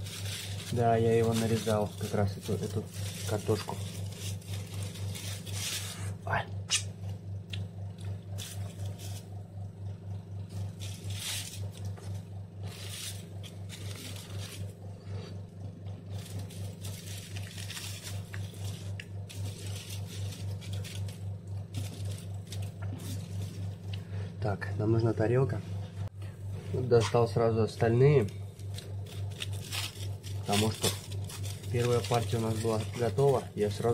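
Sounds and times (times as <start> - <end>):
aluminium foil crinkling: 0.0 - 6.3, 7.8 - 9.5, 10.4 - 24.0, 27.8 - 33.9
pulsing low hum: 0.0 - 33.9.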